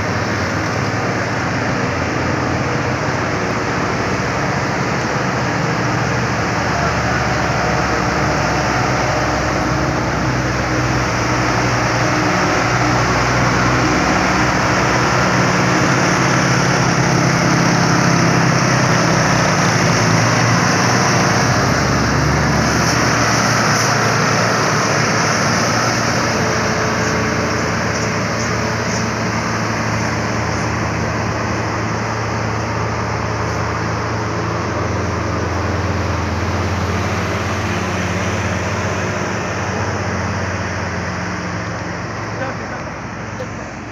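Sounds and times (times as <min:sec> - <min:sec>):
road noise: 0:00.0 - 0:43.9
truck engine climbing uphill: 0:00.0 - 0:43.9.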